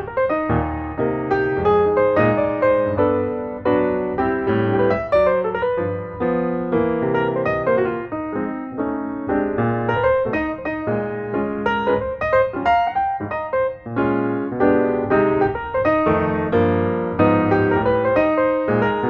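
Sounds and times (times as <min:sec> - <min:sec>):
piano music with chords: 0:00.0 - 0:19.0.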